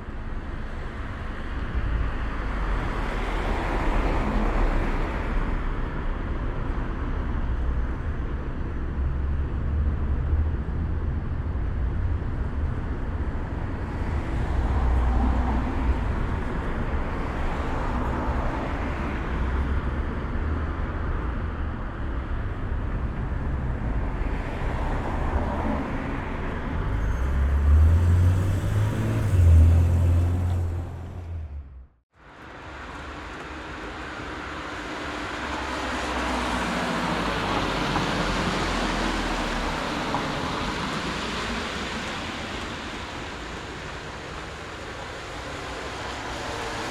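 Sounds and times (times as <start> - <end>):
rumble of passing vehicles: 0.0 - 46.9.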